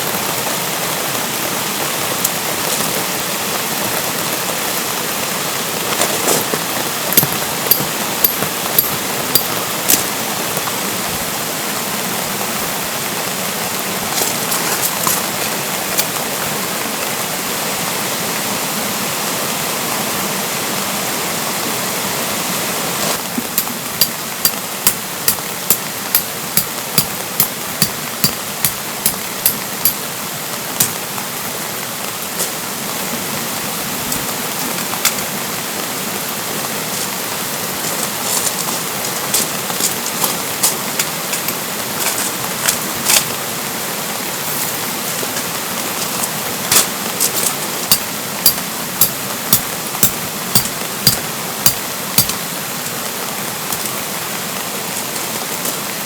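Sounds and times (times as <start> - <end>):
rain: 0.0 - 56.0
stream flowing: 0.0 - 56.0.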